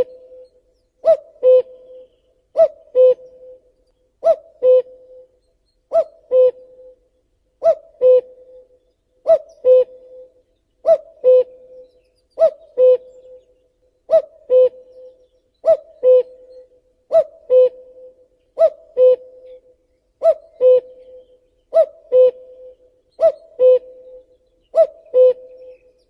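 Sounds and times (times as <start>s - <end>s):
cuckoo calling: 0.0s - 26.0s.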